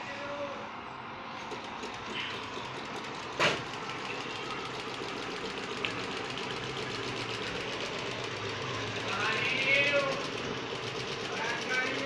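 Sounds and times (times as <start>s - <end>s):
fast mechanical clatter: 1.4s - 12.0s.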